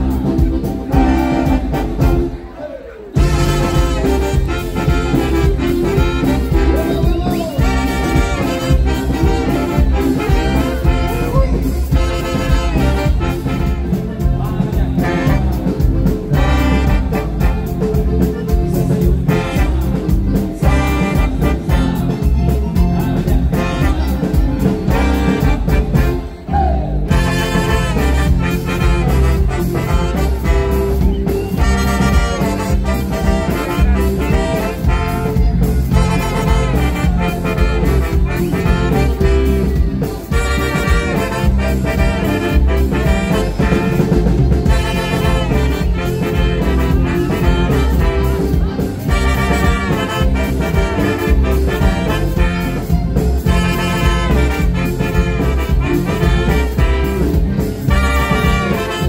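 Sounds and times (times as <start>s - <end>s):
live brass band playing: 0.0s - 59.0s.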